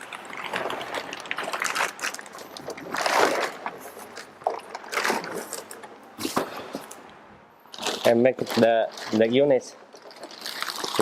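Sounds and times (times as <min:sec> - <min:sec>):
plastic wrap rustling: 0:00.0 - 0:07.0, 0:07.7 - 0:11.0.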